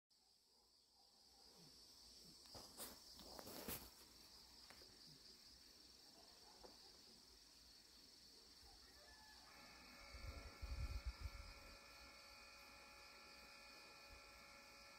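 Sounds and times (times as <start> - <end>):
crickets chirring: 0.2 - 14.9.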